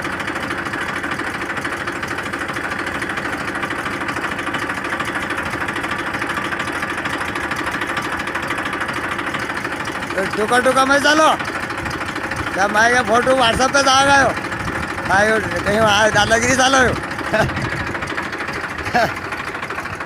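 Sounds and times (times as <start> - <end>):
pump engine chugging: 0.0 - 20.0.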